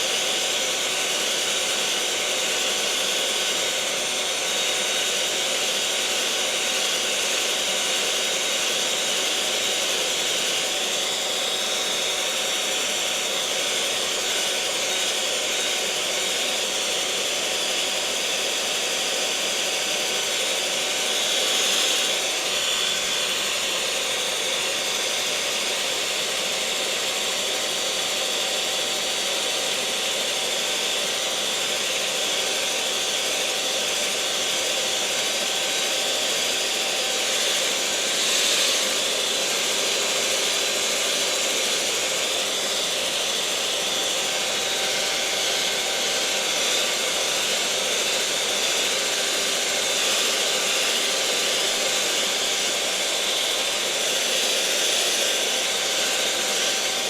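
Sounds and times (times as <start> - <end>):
electric mixer motor whirring: 0.0 - 57.0.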